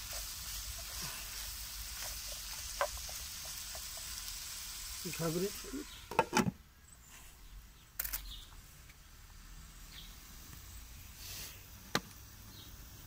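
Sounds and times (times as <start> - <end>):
faint outdoor noise: 0.0 - 13.0.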